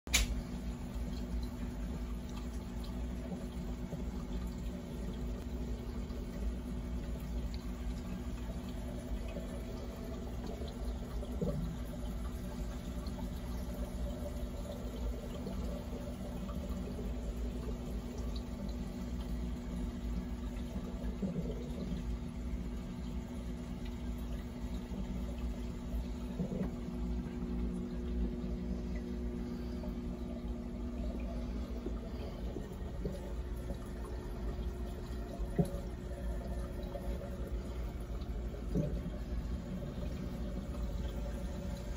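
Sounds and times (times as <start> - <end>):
constant low hum: 0.1 - 41.9
water trickling and splashing: 0.1 - 41.9.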